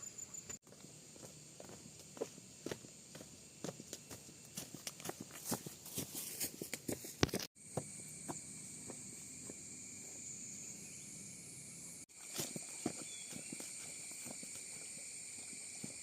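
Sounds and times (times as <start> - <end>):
insects chirring: 0.0 - 6.4, 7.2 - 16.0.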